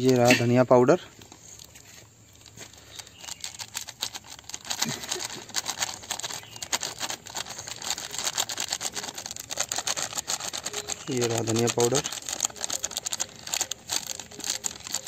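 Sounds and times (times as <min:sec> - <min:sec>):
plastic packet crinkling: 0:00.0 - 0:15.0.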